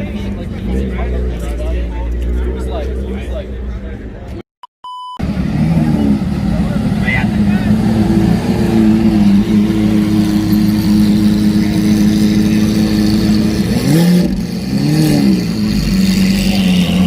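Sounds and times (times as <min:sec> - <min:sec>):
car engine idling and revving: 0:00.0 - 0:04.4, 0:05.2 - 0:17.0.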